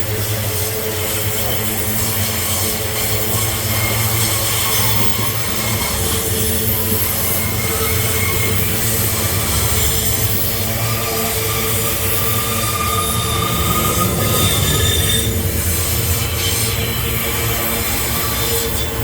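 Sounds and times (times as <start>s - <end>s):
freight train wagons rumbling: 0.0s - 19.0s
wheels squealing on rails: 0.0s - 19.0s.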